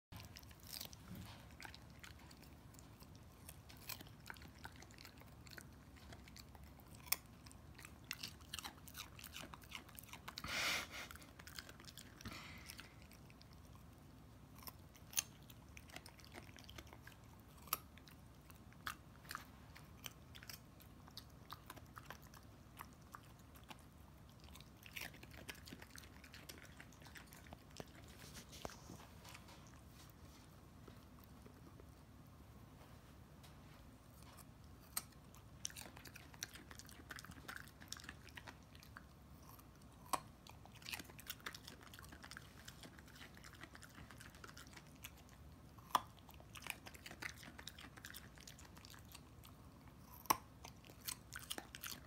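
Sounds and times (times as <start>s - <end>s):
puppy chewing carrot crunches: 0.2s - 33.0s, 33.6s - 52.0s.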